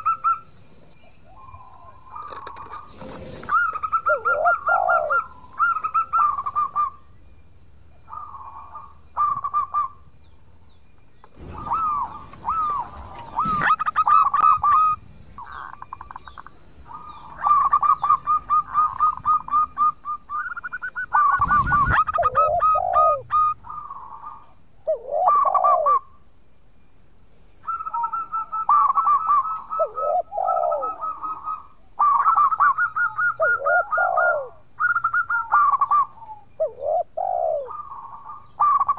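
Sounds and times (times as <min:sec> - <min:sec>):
dove cooing: 0:00.0 - 0:07.1, 0:08.1 - 0:10.0, 0:11.4 - 0:26.2, 0:27.6 - 0:38.9
rustle: 0:00.0 - 0:38.9.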